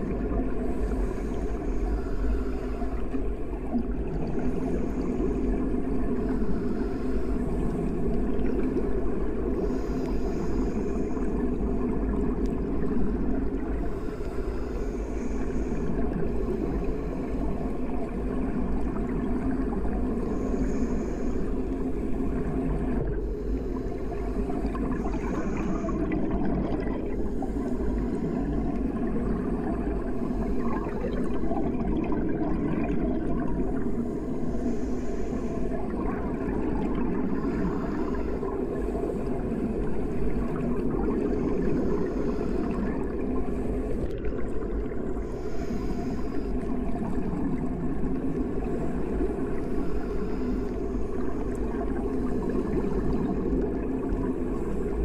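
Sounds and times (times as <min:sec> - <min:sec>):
muffled underwater rumble: 0:00.0 - 0:55.0.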